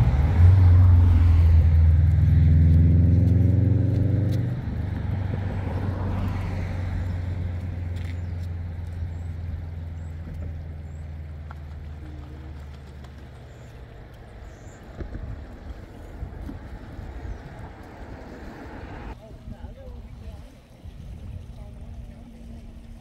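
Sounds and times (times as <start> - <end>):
vehicle engine moving away: 0.0 - 19.2.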